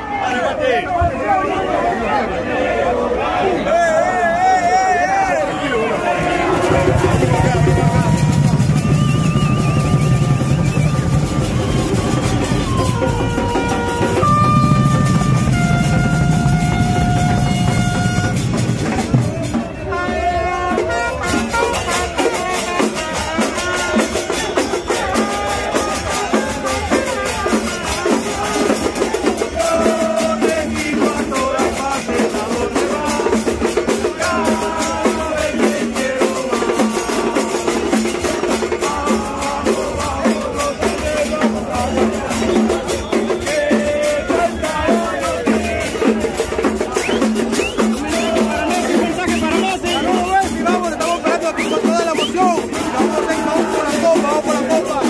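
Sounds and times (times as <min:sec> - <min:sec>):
crowd singing a chant: 0:00.0 - 0:55.0
trumpets: 0:02.5 - 0:55.0
drums: 0:06.0 - 0:55.0.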